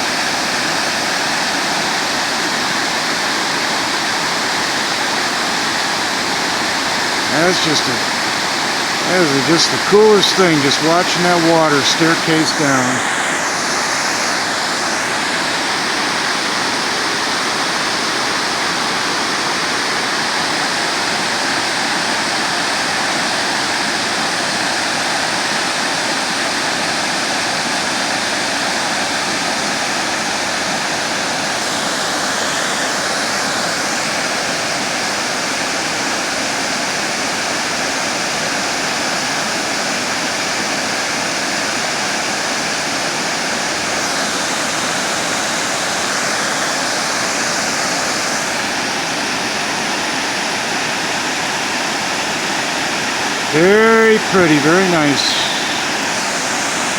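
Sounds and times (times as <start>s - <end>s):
water rushing down spillway: 0.0s - 53.5s.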